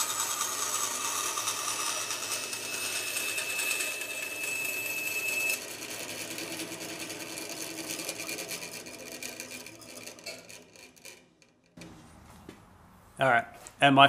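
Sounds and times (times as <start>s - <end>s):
bandsaw cutting plywood: 0.0s - 11.5s.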